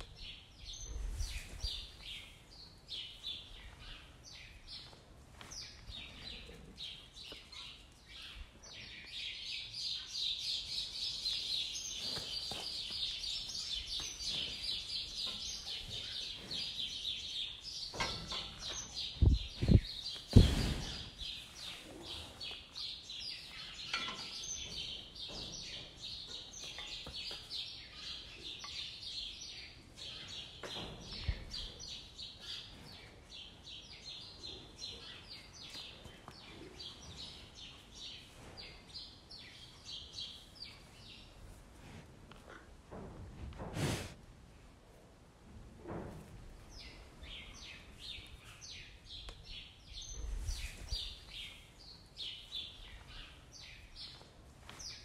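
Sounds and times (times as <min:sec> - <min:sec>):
small birds chirping: 0:00.0 - 0:41.6, 0:46.5 - 0:55.0.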